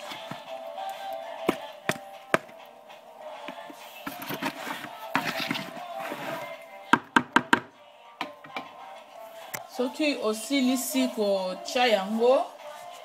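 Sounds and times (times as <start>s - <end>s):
background music with steady tones: 0.0s - 13.0s.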